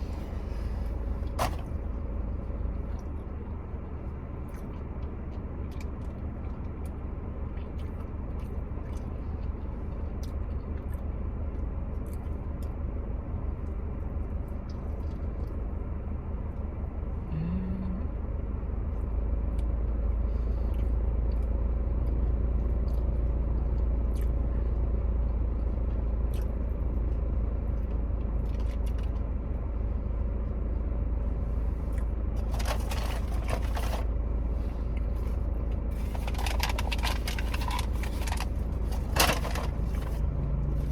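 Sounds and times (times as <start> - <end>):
low rumble: 0.0 - 40.9.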